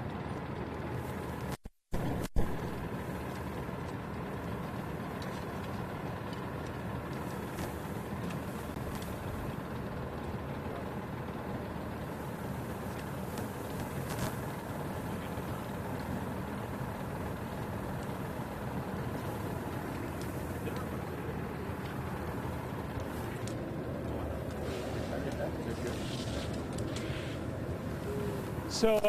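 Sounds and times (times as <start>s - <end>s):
faint fire crackles: 0.0s - 29.0s
steady low rumble: 0.0s - 29.0s.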